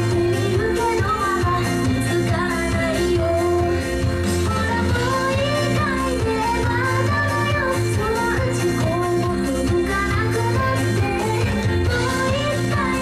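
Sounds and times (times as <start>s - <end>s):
pop song over speakers: 0.0s - 13.0s.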